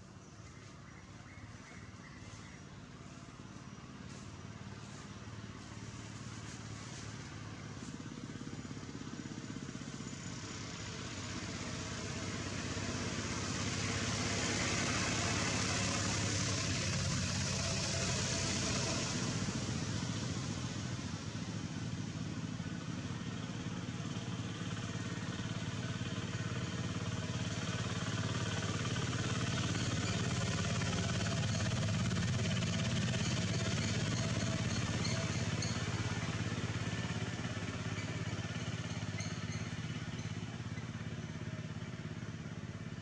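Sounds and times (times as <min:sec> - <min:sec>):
motor engine running: 0:00.0 - 0:43.0.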